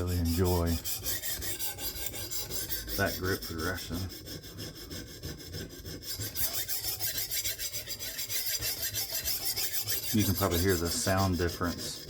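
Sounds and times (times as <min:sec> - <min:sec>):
sharpening stone rasping on knife: 0:00.0 - 0:12.0.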